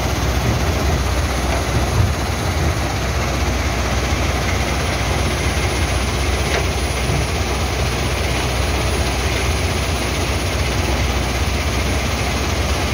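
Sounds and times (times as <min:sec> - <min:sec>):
crusher machinery drone: 0:00.0 - 0:12.9.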